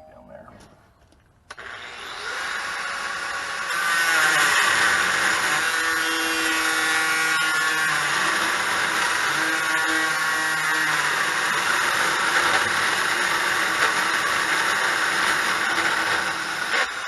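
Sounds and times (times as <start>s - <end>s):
angle grinder cutting metal: 1.5s - 17.0s.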